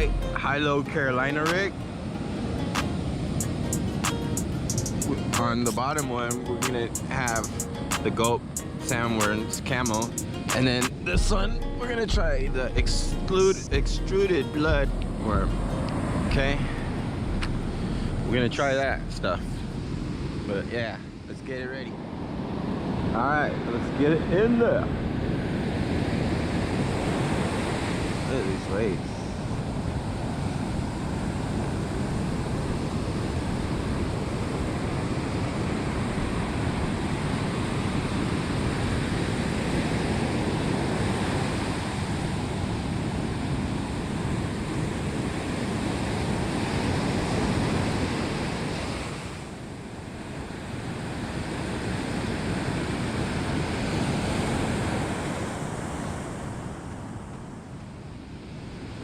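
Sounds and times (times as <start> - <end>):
ocean surf washing onto sand: 0.0 - 11.2, 14.3 - 57.5.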